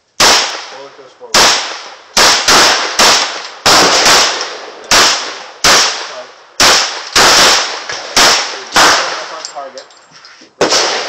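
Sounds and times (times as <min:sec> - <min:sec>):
pistol shots: 0:00.2 - 0:09.7, 0:10.6 - 0:11.0.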